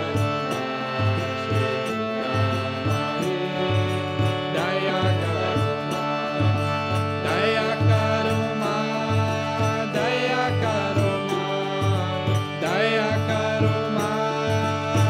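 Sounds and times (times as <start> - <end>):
droning accompaniment: 0.0 - 15.0
person chanting: 0.0 - 15.0.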